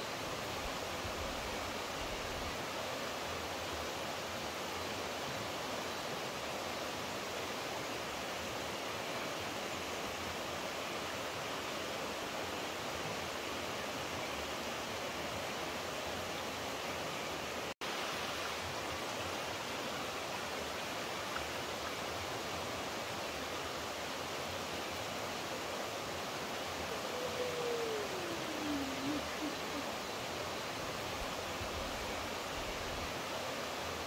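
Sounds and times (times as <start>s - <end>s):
flowing water rushing: 0.0s - 34.0s.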